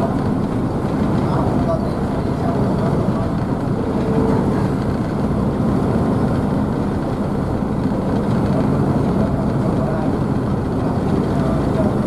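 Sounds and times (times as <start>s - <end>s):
ship engines rumbling: 0.0s - 12.0s.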